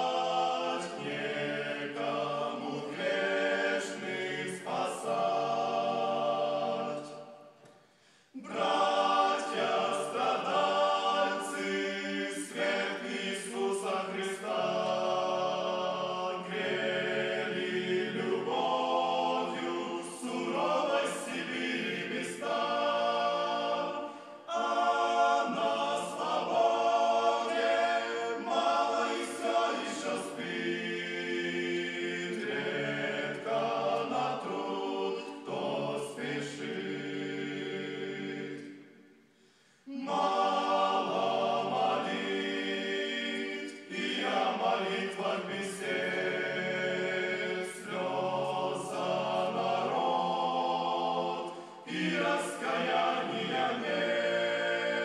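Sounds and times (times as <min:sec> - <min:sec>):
voices singing in harmony: 0:00.0 - 0:55.0.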